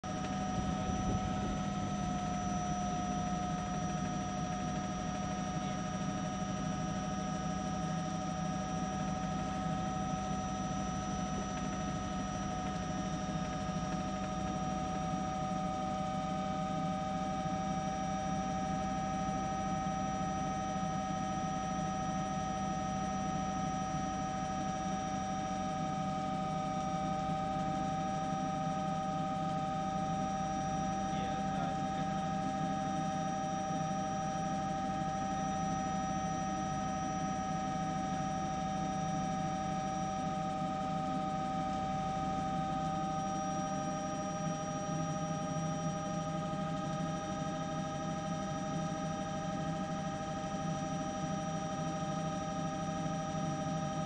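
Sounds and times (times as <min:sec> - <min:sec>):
aircraft engine whine and drone: 0:00.0 - 0:54.0.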